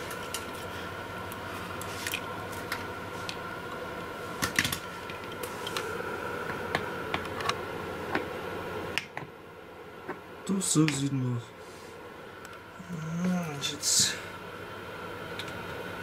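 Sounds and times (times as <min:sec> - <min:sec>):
thin whine: 0:00.0 - 0:16.0.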